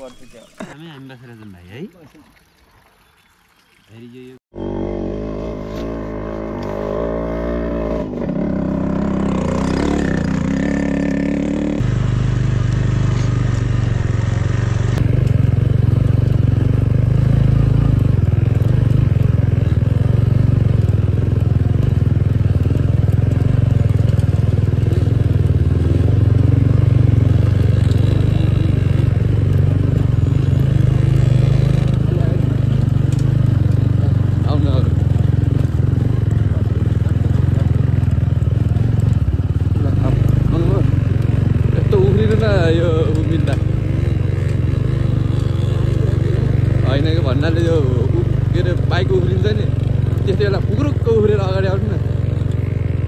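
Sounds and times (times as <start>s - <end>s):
motorcycle engine running: 4.5s - 53.0s.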